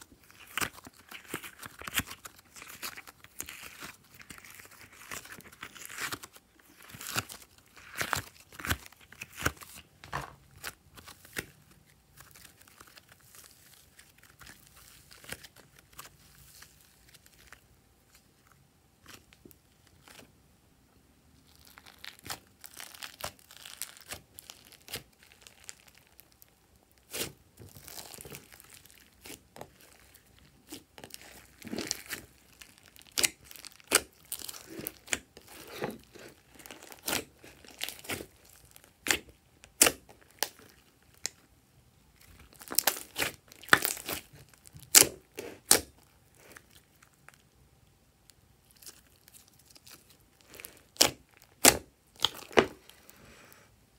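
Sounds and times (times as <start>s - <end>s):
hands squishing clay and slime: 0.0s - 20.4s, 21.4s - 41.5s, 42.1s - 47.5s, 48.3s - 53.2s.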